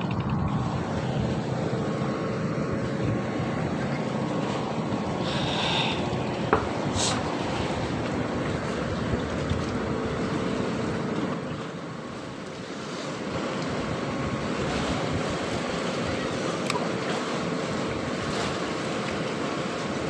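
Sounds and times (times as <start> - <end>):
faint motor hum: 0.0 - 20.0
wind: 0.0 - 20.0
lapping water: 3.8 - 20.0.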